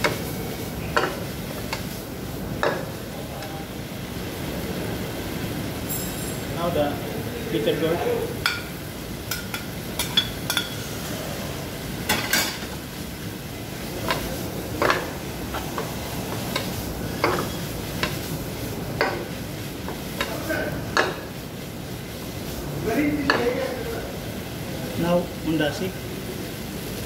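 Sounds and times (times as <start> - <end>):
food sizzling: 0.0 - 27.0.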